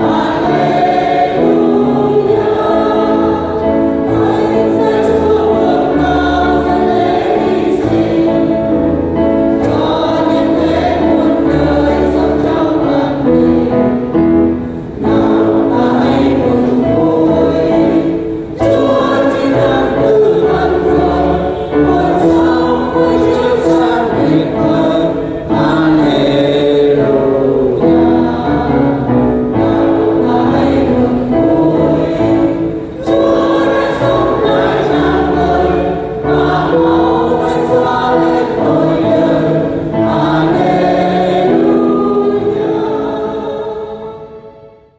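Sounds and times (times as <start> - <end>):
church choir singing a hymn: 0.0 - 44.9.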